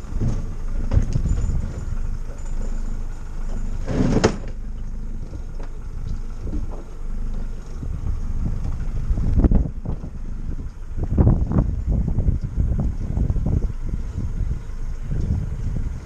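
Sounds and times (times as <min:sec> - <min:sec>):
hull on water: 0:00.0 - 0:16.0
motorboat engine rumble: 0:00.0 - 0:16.0.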